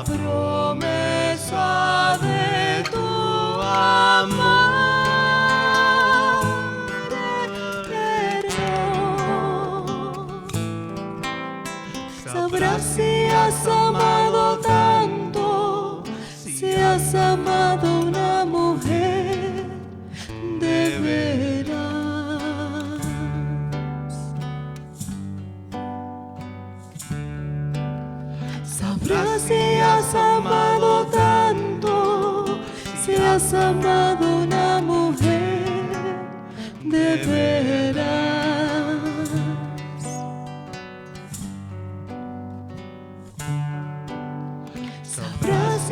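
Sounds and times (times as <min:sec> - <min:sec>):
person singing with vibrato: 0:00.0 - 0:25.1, 0:28.4 - 0:41.6, 0:44.6 - 0:45.9
acoustic guitar: 0:00.0 - 0:45.9.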